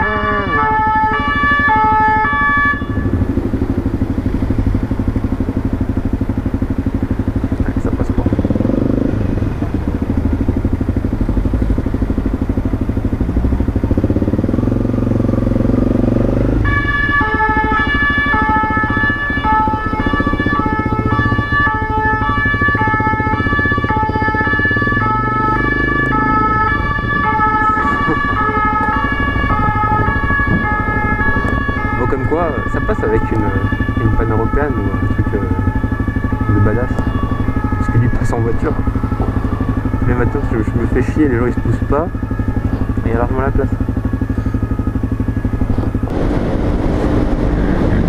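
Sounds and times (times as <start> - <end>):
motorcycle engine running: 0.0 - 48.0
two-tone siren: 0.0 - 48.0.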